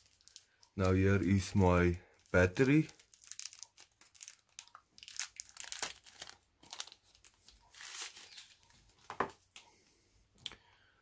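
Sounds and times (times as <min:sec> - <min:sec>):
wrapper crinkling: 0:00.0 - 0:09.0.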